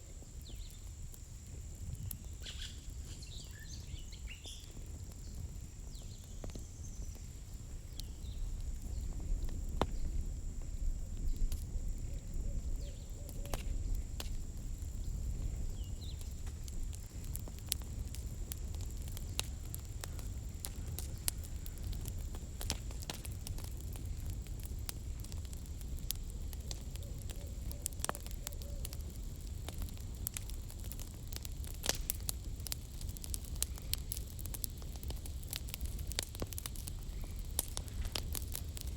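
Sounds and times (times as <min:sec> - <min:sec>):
campfire crackling: 0:00.0 - 0:38.9
fire popping: 0:00.0 - 0:38.9.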